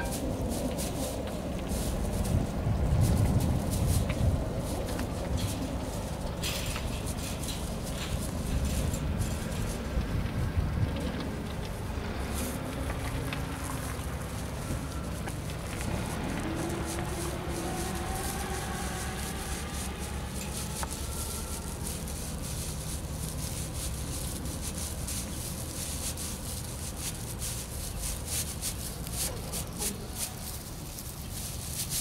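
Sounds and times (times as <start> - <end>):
plastic strands scraping fence: 0.0 - 32.0.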